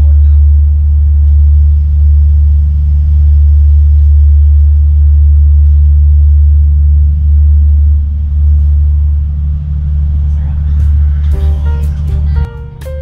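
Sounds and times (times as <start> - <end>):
ferry engines low drone: 0.0 - 13.0.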